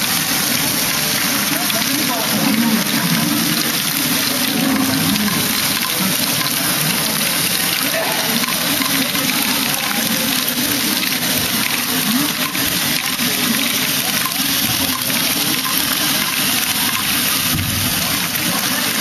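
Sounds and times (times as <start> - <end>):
murmur of voices: 0.0 - 19.0.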